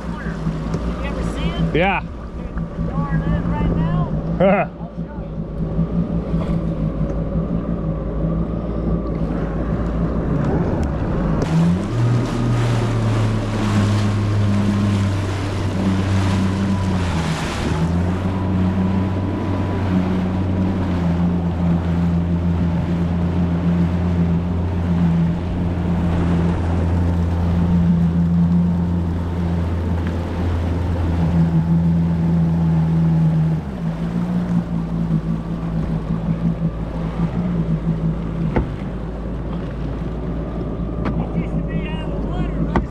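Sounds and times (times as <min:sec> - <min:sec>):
jet ski engine: 0:00.0 - 0:42.9
rush of wind and water: 0:00.0 - 0:42.9.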